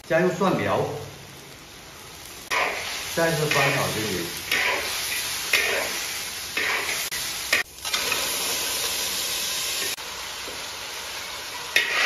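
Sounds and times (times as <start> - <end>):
meat sizzling in a wok: 0.2 - 12.0.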